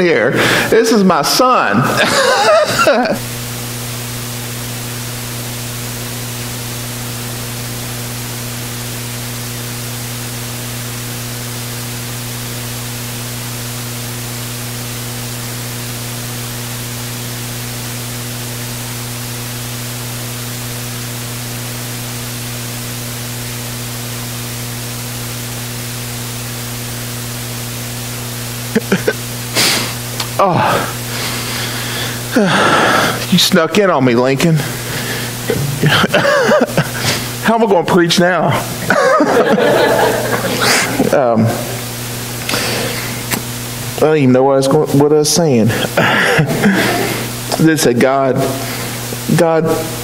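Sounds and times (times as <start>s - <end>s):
low mains hum: 0.0s - 50.0s
electrical hiss: 0.6s - 50.0s.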